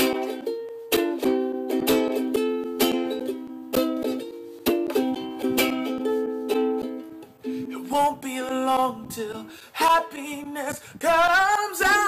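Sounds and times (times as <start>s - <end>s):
ukulele strumming chords: 0.0s - 10.6s.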